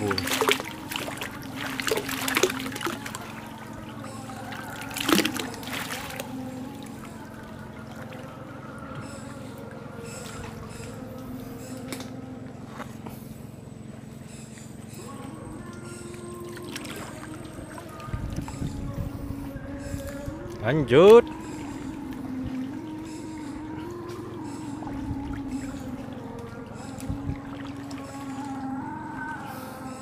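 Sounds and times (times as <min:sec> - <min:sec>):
water trickling: 0:00.0 - 0:11.3, 0:15.0 - 0:29.5
shallow water splashing: 0:00.0 - 0:12.0, 0:15.0 - 0:30.0.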